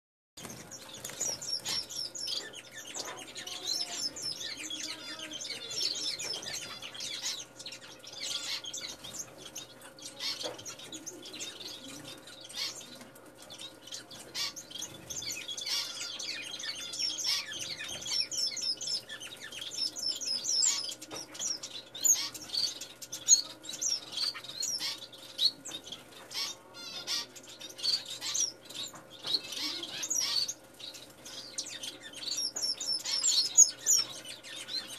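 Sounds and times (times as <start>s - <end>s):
faint steady hum: 0.4s - 34.9s
finches chirping: 0.4s - 34.9s.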